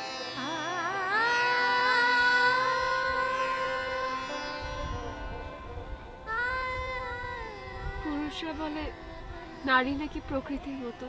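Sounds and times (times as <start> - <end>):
indian classical style melody: 0.0 - 11.0.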